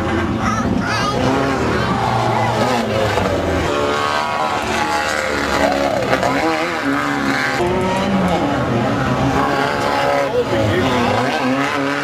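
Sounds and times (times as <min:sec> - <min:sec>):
race vehicle engines revving: 0:00.0 - 0:12.0.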